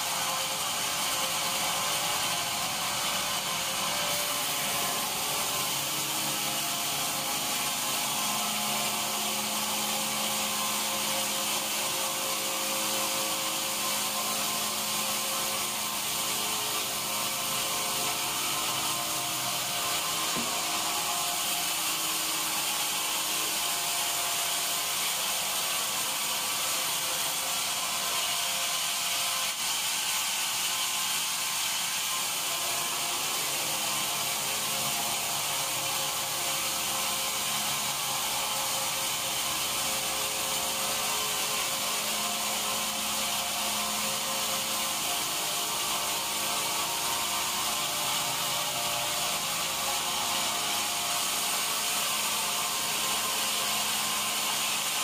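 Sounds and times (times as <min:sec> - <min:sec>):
band saw cutting a log: 0:00.0 - 0:55.0.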